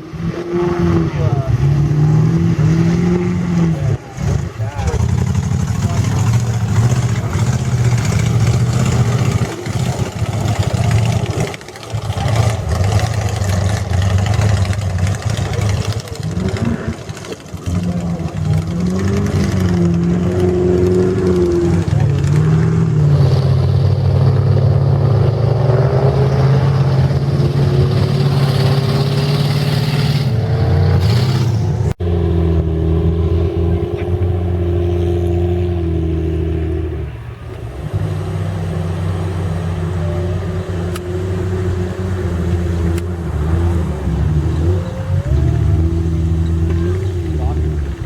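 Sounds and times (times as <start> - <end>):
truck engine running hard: 0.0 - 48.0.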